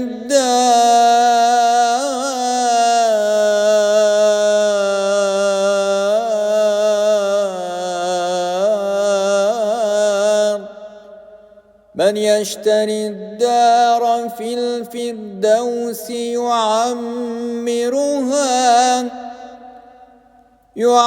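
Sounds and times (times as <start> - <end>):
man chanting poetry: 0.0 - 11.2, 11.9 - 20.0, 20.7 - 21.0.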